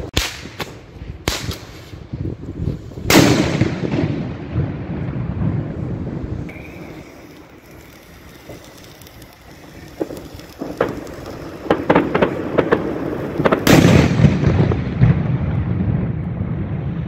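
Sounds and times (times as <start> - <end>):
distant fireworks rumbling: 0.0 - 17.0
firework crackling: 0.0 - 17.0.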